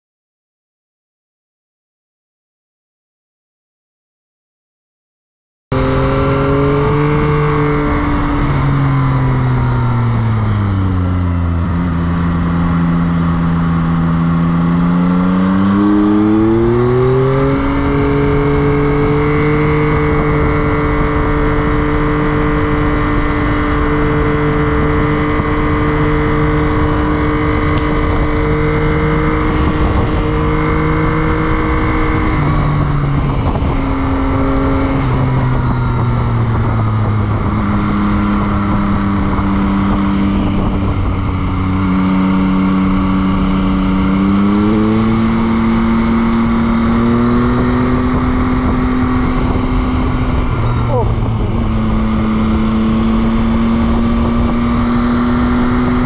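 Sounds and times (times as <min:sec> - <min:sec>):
motorcycle engine revving: 0:05.7 - 0:56.0.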